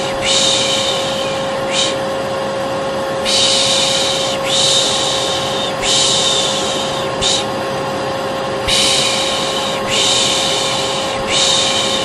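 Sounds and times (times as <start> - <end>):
person shushing: 0.0 - 2.0, 3.2 - 7.6, 8.6 - 12.0
hair dryer whining: 0.0 - 12.0.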